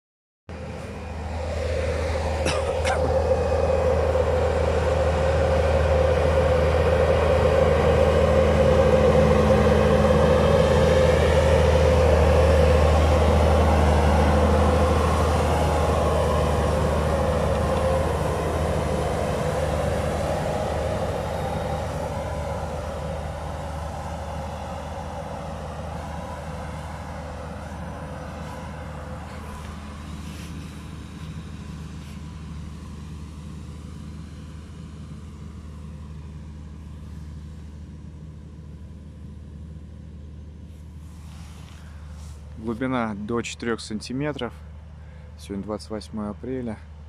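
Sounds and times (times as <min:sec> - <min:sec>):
tractor engine drone: 0:00.5 - 0:47.0.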